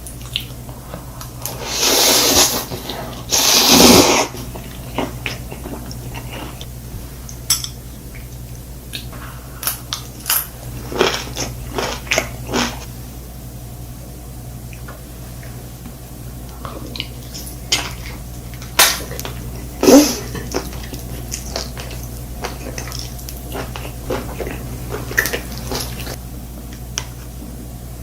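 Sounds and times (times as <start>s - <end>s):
chewing and crunching food: 0.0s - 12.9s, 14.7s - 27.7s.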